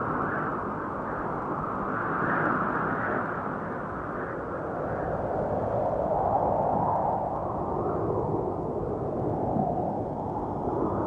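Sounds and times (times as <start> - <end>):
wind noise: 0.0 - 11.0.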